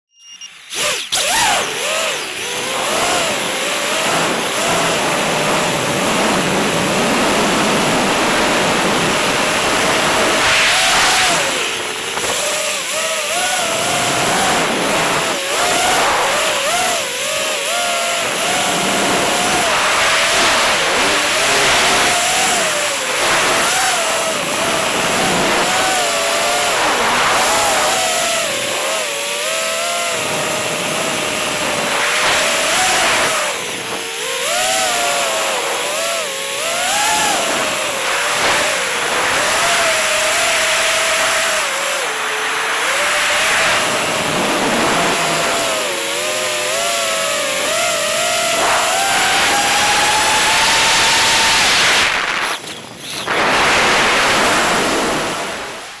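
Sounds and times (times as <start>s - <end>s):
drone motors whining: 0.1s - 56.0s.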